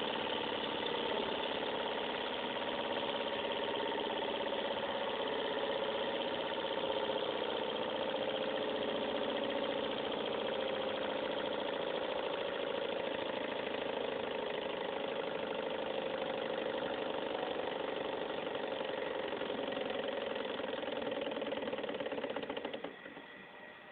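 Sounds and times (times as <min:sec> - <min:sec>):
model engine mechanical rattle: 0:00.0 - 0:23.3.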